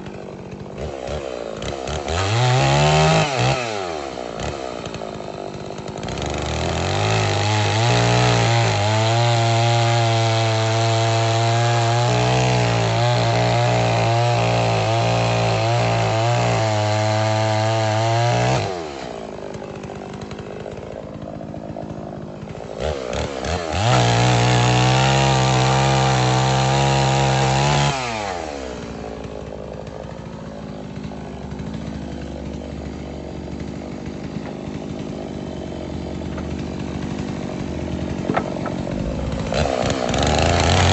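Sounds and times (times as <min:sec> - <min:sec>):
chainsaw cutting wood: 0:00.0 - 0:40.9
chainsaw idling: 0:00.0 - 0:40.9.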